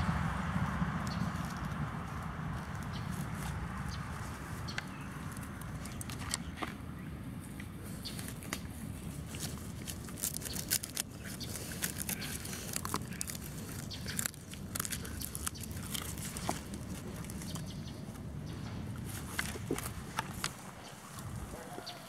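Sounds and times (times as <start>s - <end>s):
steady low rumble: 0.0s - 21.7s
puppies chewing dry grass: 0.0s - 22.0s.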